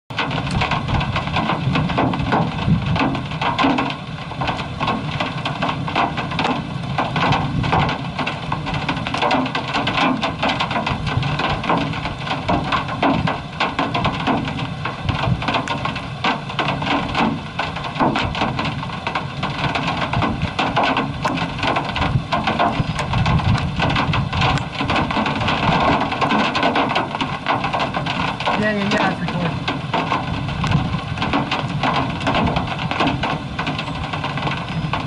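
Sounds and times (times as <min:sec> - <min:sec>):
heavy rain on a vehicle: 0:00.1 - 0:35.0.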